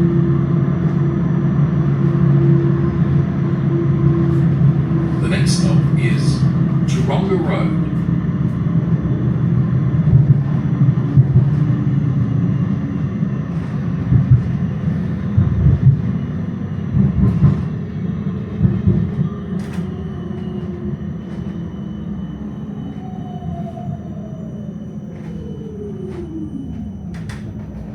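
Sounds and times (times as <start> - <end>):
tram rumbling on track: 0.0 - 27.9.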